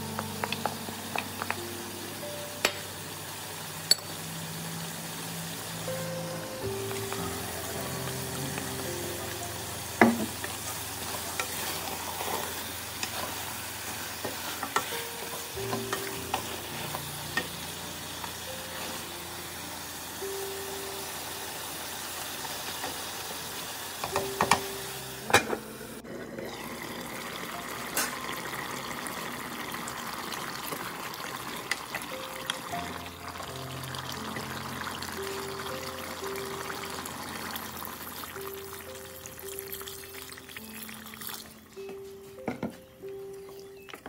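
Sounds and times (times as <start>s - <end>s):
meat sizzling in a pot: 0.0s - 41.8s.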